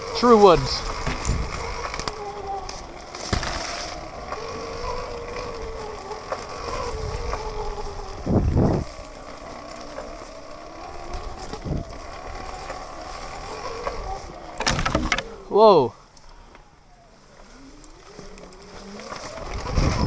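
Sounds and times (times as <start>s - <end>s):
dirt bike ride rumble: 0.0s - 20.0s.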